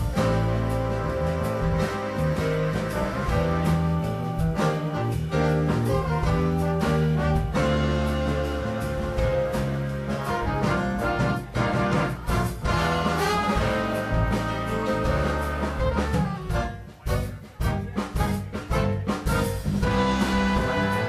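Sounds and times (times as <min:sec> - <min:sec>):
big band playing jazz: 0:00.0 - 0:21.0.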